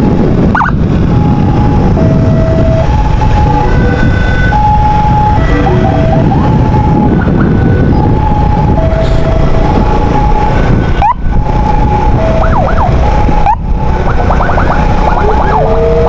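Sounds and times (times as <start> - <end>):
ambulance siren: 0.0 - 16.0.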